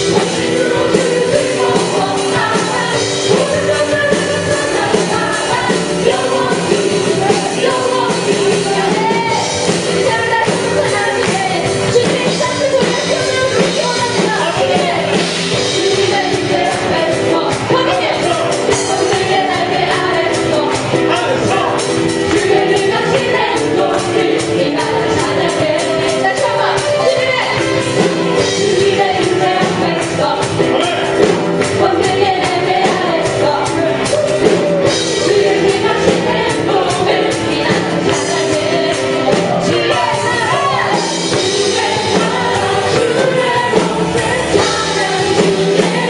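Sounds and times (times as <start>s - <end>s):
praise band playing: 0.0s - 46.0s
voices singing: 0.0s - 46.0s.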